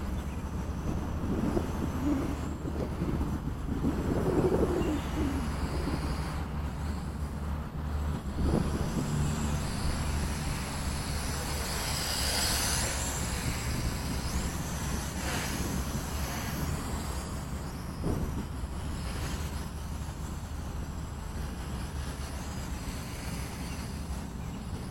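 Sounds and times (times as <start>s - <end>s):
drone motors whining: 0.0s - 7.5s, 8.1s - 20.8s
wind buffeting microphone: 0.0s - 24.9s.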